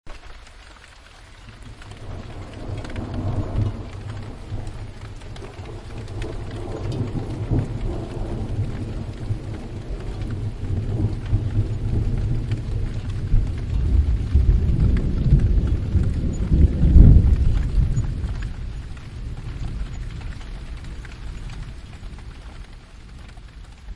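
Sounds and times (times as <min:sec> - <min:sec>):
steady rain: 0:00.1 - 0:23.9
rolling thunder: 0:01.6 - 0:23.2.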